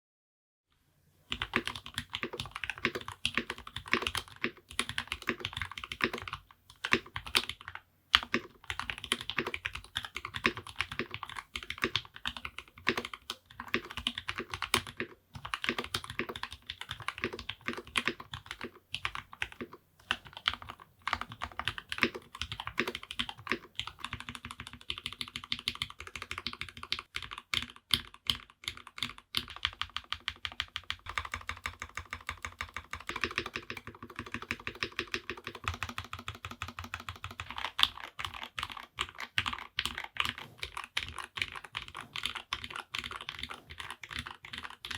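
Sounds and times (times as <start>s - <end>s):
mechanical keyboard typing: 1.3s - 44.9s.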